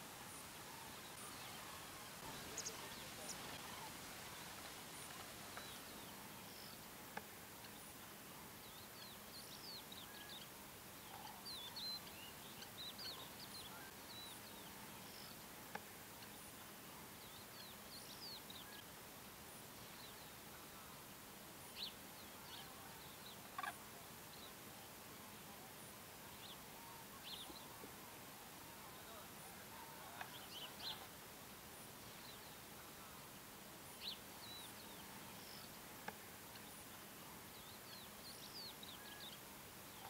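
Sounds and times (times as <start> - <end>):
wild birds twittering: 0.0 - 6.9, 7.6 - 15.5, 19.8 - 25.0, 25.6 - 40.0
steady hiss: 0.0 - 40.0.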